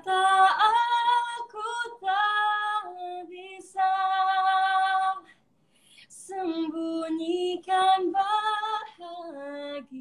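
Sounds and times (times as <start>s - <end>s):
woman singing unaccompanied: 0.0s - 5.3s, 6.2s - 10.0s.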